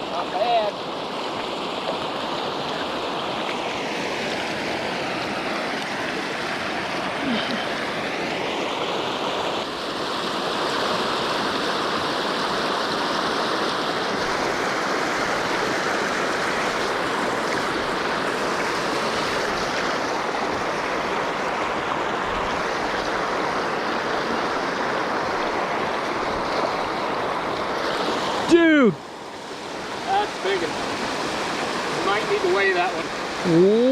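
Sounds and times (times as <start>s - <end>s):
water rushing over rocks: 0.0s - 33.9s.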